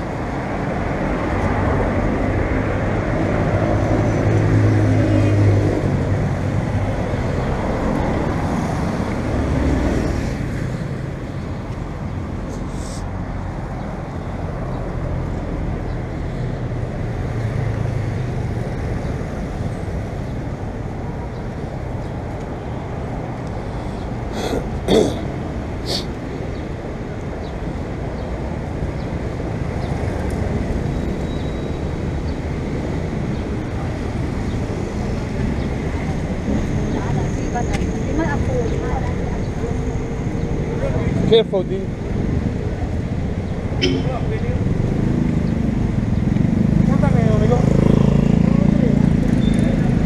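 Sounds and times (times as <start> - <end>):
city traffic noise: 0.0 - 50.0.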